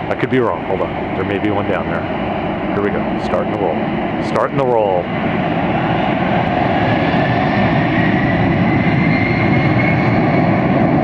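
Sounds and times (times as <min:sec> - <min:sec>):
jet engine whine rising in pitch: 0:00.0 - 0:11.0
jet engines roaring: 0:00.0 - 0:11.0.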